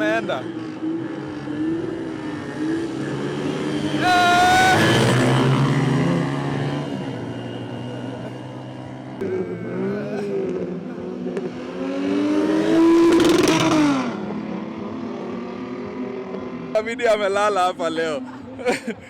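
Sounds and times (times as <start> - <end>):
car engines at full throttle: 0.0 - 19.0.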